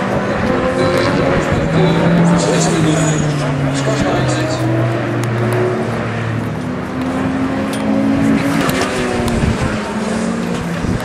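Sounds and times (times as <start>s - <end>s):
car engines racing past: 0.0s - 11.0s.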